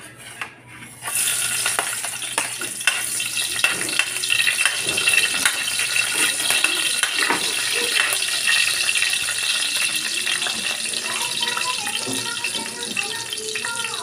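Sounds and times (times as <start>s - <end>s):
metal spatula scraping pan: 0.0s - 13.4s
garlic sizzling in oil: 1.0s - 14.0s.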